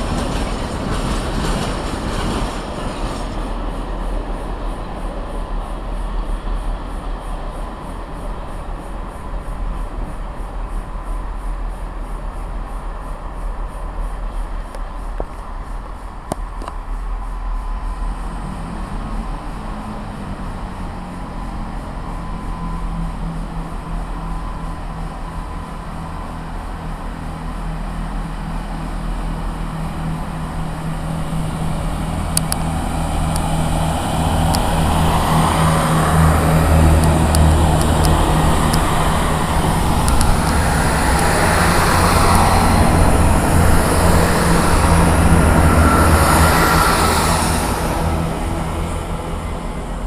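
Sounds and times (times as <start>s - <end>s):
steady low drone: 0.0s - 50.0s
train wheel and rail rumble: 0.0s - 50.0s.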